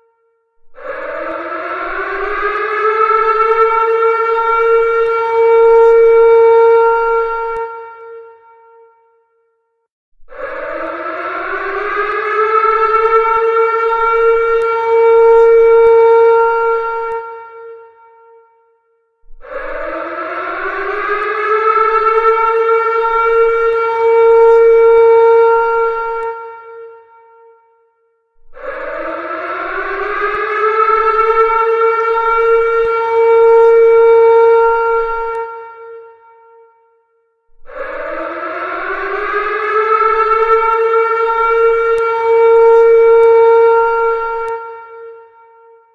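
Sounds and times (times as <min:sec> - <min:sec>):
air-raid siren wailing: 0:00.8 - 0:08.9, 0:10.3 - 0:18.4, 0:19.3 - 0:27.5, 0:28.5 - 0:36.6, 0:37.6 - 0:45.9.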